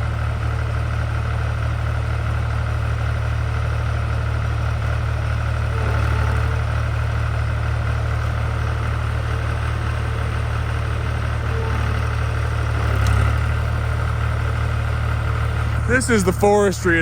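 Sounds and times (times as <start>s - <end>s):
skid steer engine idling: 0.0s - 17.0s.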